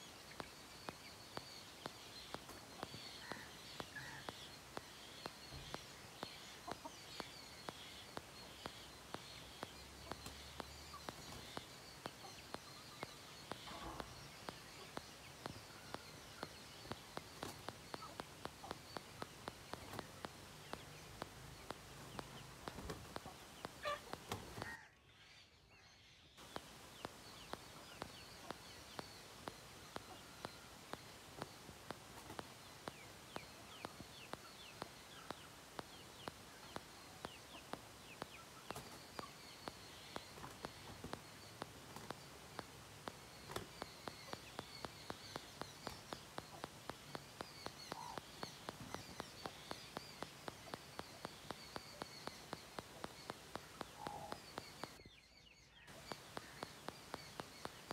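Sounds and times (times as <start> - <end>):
sharp ticks: 0.0 - 24.7, 26.4 - 55.1, 55.9 - 57.9
chicks clucking and peeping: 0.1 - 24.7, 26.4 - 55.0.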